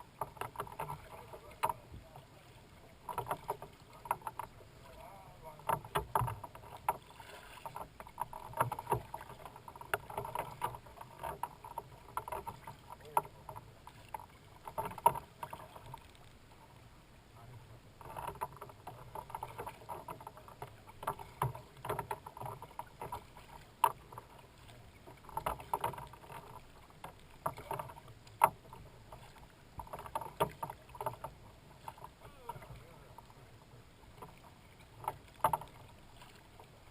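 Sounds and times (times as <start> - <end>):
paddle knocks: 0.0 - 16.2, 18.0 - 33.4, 34.0 - 36.9
water splashing off paddle blades: 0.0 - 36.9.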